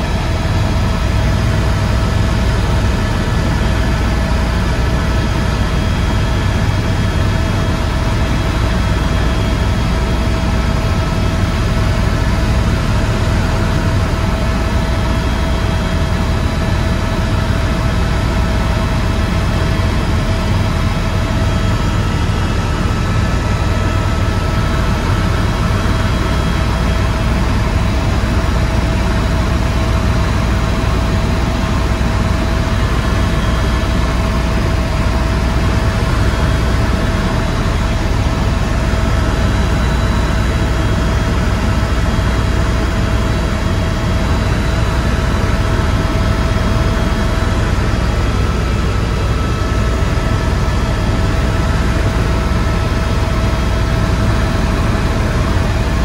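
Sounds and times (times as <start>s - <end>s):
helicopter rotor rumble: 0.0s - 56.0s
turbine engine whine: 0.0s - 56.0s.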